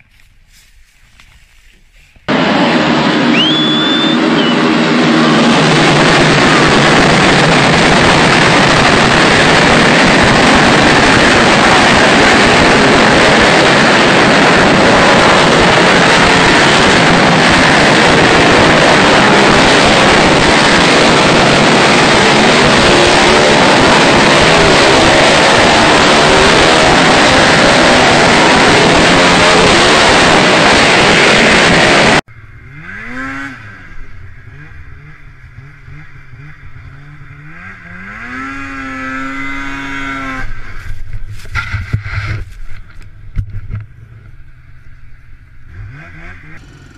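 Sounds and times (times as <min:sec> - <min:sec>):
snowmobile engine revving: 0:02.3 - 0:43.0, 0:45.4 - 0:46.9
racing quad engines roaring: 0:02.3 - 0:46.9.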